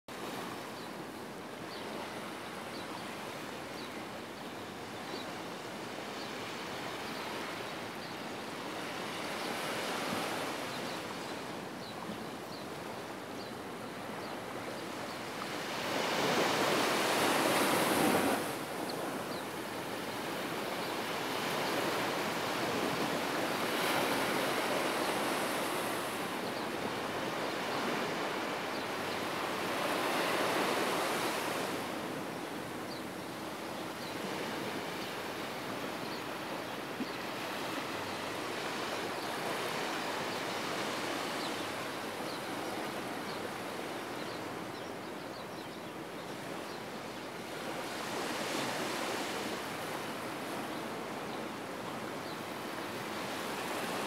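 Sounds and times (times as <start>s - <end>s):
waves breaking on sandy beach: 0.1s - 54.0s.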